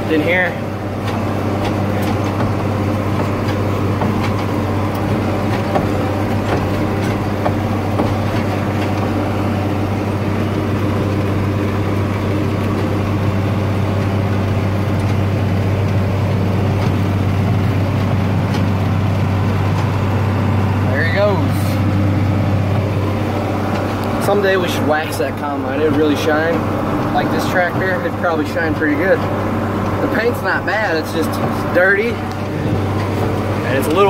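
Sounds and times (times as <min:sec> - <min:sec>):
tractor diesel engine drone: 0:00.0 - 0:34.0.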